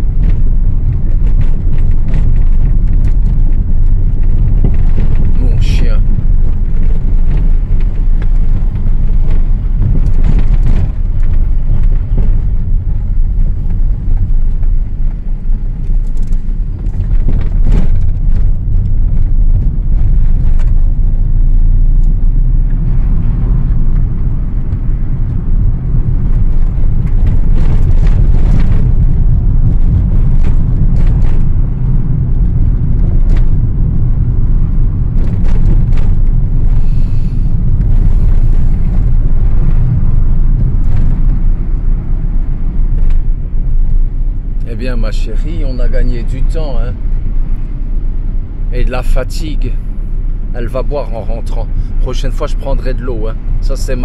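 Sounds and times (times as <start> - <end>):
car road and wind rumble: 0.0 - 54.0.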